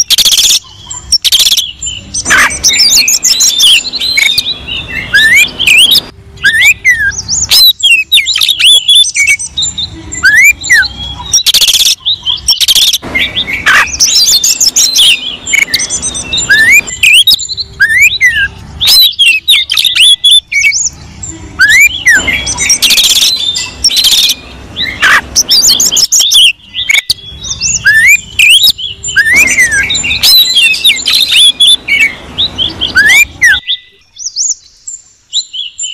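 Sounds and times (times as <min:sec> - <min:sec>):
magpie-robin singing: 0:00.0 - 0:35.9.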